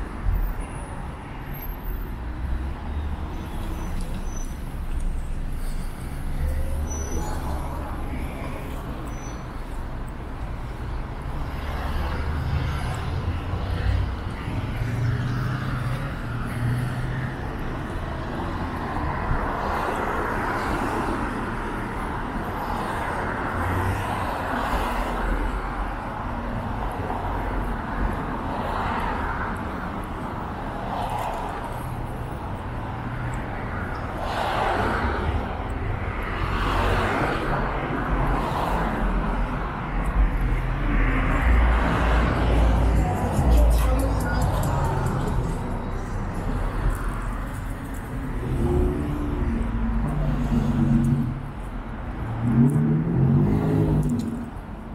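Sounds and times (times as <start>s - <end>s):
traffic rumble: 0.0s - 54.9s.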